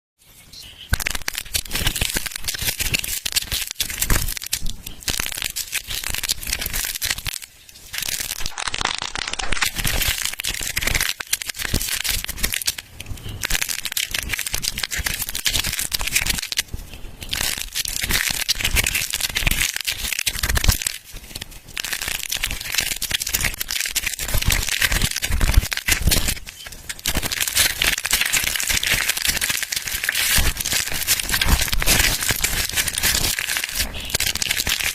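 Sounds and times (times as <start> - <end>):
dry soap crunching and crackling: 0.9 - 34.9.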